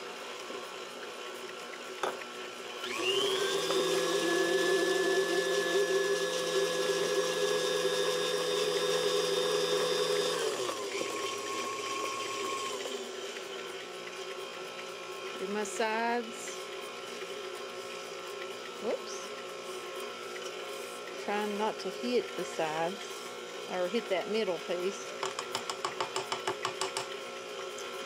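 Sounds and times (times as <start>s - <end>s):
electric stand mixer whining: 0.0s - 28.0s.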